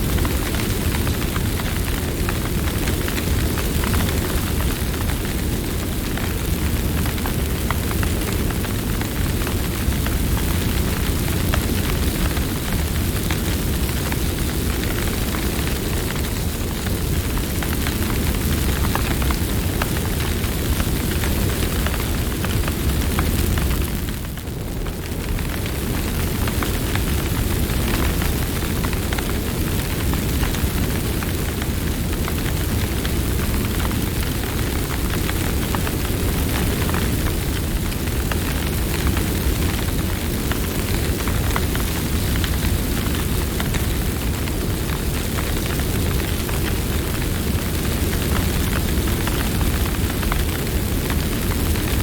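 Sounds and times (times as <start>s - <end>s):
campfire crackling: 0.0s - 52.0s
low rumble of flames: 0.0s - 52.0s.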